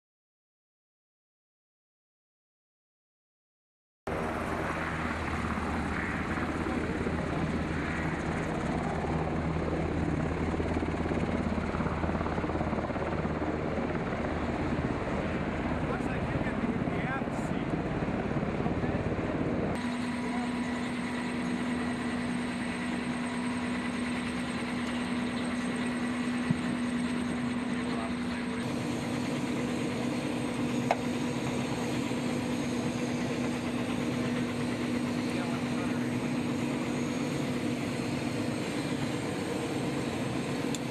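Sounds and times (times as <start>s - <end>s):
helicopter engine and rotor: 4.1s - 40.9s.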